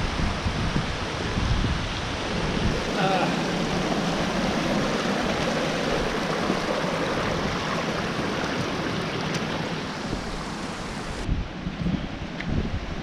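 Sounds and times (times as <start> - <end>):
stream trickling over rocks: 0.0 - 11.2.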